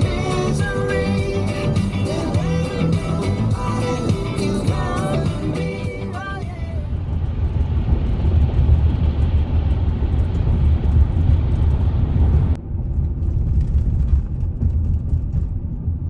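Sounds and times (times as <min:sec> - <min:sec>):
vehicle rumble inside cabin: 0:00.0 - 0:16.0.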